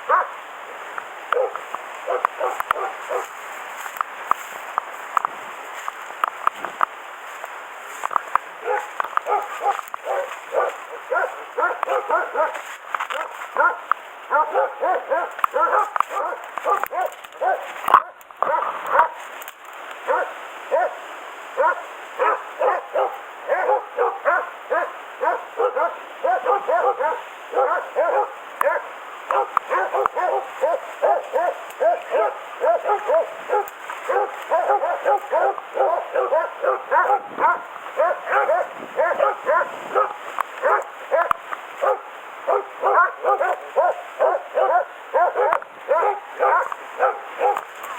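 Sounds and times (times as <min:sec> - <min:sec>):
dogs baying: 0:00.0 - 0:03.4, 0:08.6 - 0:19.2, 0:20.0 - 0:21.0, 0:21.6 - 0:47.9.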